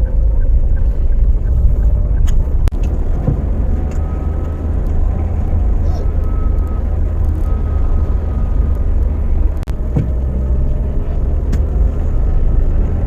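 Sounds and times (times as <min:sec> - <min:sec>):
faint engine tone: 0:00.0 - 0:13.0
road and engine rumble: 0:00.0 - 0:13.0.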